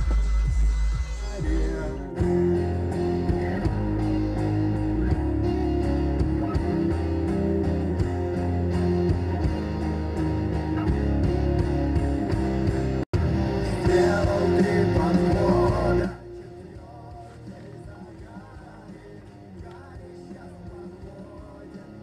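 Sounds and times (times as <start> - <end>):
rock music with guitar: 0.0 - 22.0.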